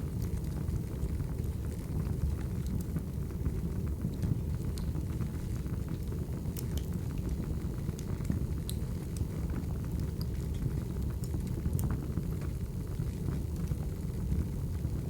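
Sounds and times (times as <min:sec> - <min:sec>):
fire rumbling: 0:00.0 - 0:15.0.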